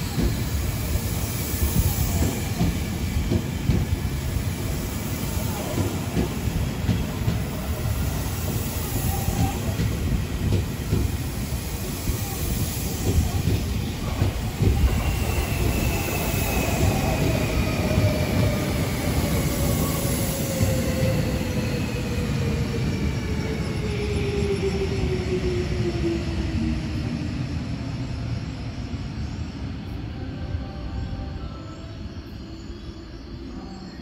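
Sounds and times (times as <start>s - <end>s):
train wheels rumbling on rails: 0.0s - 30.1s.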